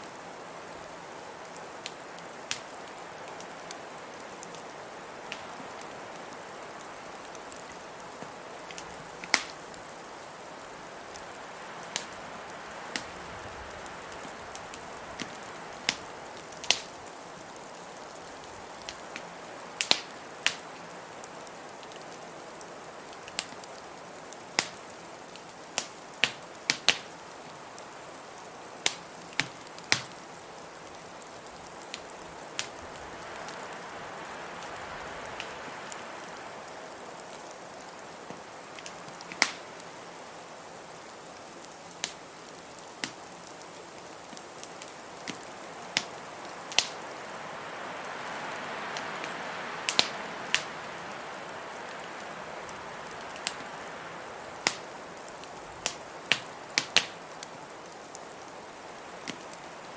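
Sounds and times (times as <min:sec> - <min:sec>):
blizzard wind hissing: 0:00.0 - 0:25.2, 0:26.2 - 0:40.9, 0:44.5 - 0:56.8
wood fire crackling and popping: 0:00.7 - 0:34.0, 0:34.6 - 0:47.4, 0:48.2 - 0:50.9, 0:51.7 - 0:59.9.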